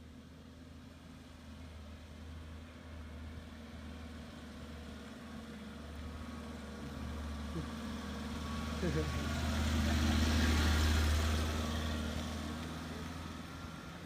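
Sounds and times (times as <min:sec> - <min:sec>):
heavy vehicle engine drone: 0:00.0 - 0:14.0.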